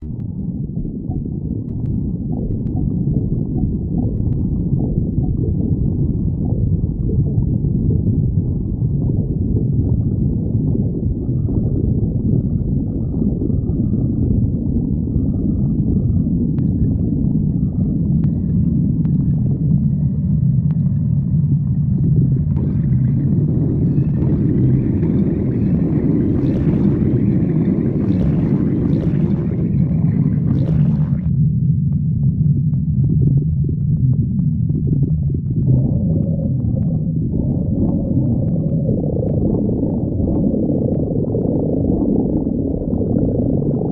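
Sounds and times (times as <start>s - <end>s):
stomach growling: 0.0s - 43.9s.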